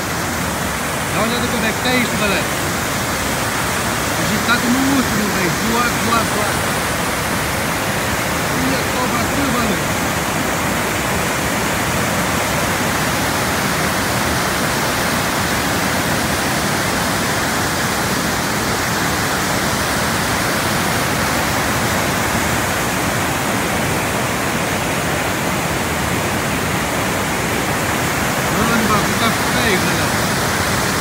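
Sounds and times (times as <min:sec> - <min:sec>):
floodwater rushing over rocks: 0:00.0 - 0:31.0.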